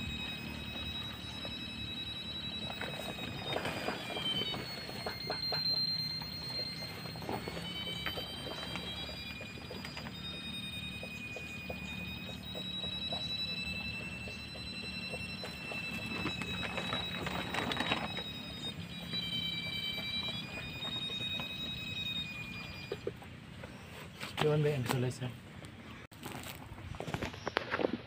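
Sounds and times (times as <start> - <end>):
high-pitched detector tone: 0.0 - 25.3.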